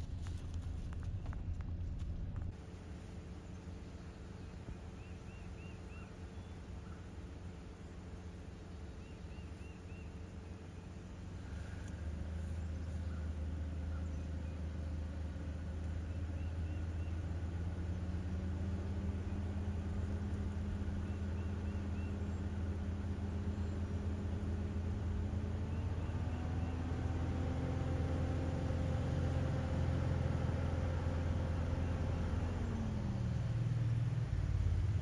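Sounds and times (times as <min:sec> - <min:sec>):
car engine low rumble: 0:00.0 - 0:35.0.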